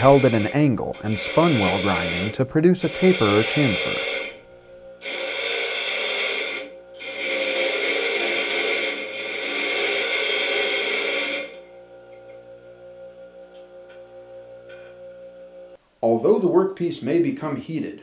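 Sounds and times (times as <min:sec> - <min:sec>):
grinder motor hum: 0:00.0 - 0:15.8
grinder wheel grinding steel rod: 0:00.0 - 0:15.8.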